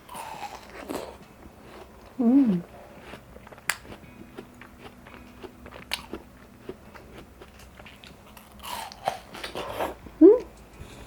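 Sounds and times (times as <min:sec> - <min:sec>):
chewing watermelon: 0:00.0 - 0:11.0.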